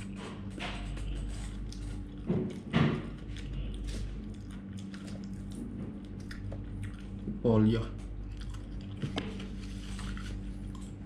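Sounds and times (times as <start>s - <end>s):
person chewing: 0.0s - 7.4s, 8.0s - 11.0s
steady low hum: 0.0s - 11.0s.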